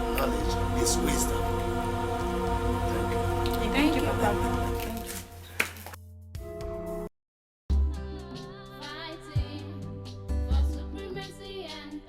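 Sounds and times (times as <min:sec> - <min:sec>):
background music: 0:00.0 - 0:07.1, 0:07.7 - 0:12.0.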